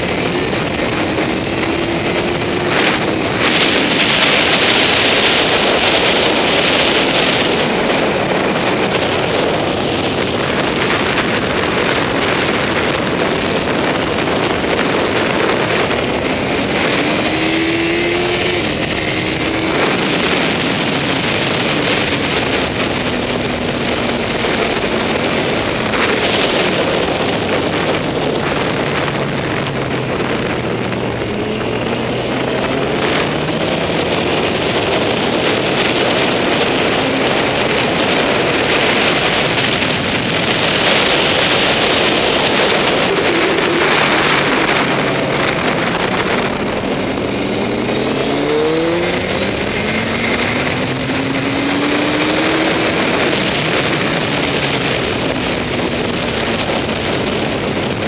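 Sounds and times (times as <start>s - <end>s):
wind rushing over camera: 0.0s - 58.0s.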